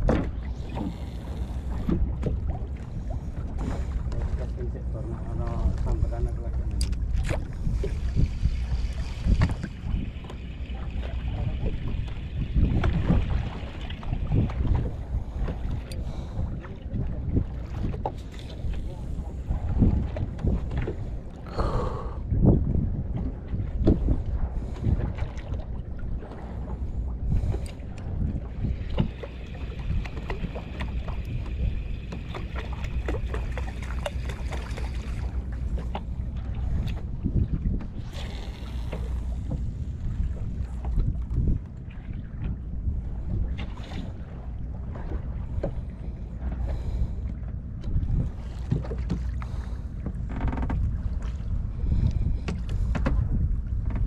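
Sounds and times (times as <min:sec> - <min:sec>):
boat engine low rumble: 0:00.0 - 0:54.0
water splashing against hull: 0:00.0 - 0:54.0
wind buffeting microphone: 0:00.0 - 0:54.0.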